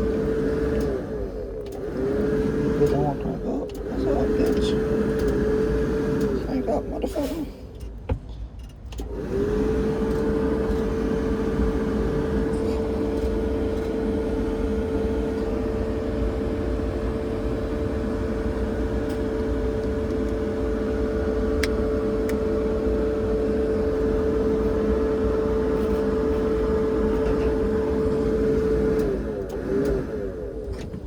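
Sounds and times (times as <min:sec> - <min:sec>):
constant whine: 0:00.0 - 0:31.0
tractor engine running: 0:00.0 - 0:31.0.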